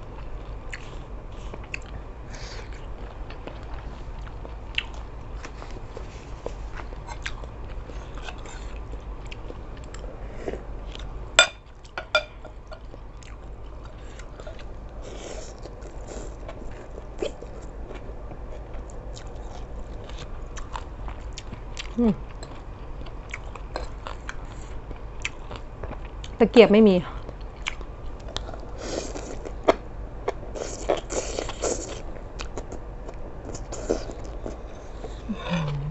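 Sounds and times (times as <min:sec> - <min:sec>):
chewing with wet mouth clicks: 0:00.2 - 0:02.0, 0:02.6 - 0:06.0, 0:06.8 - 0:10.1, 0:10.9 - 0:26.4, 0:27.2 - 0:35.8.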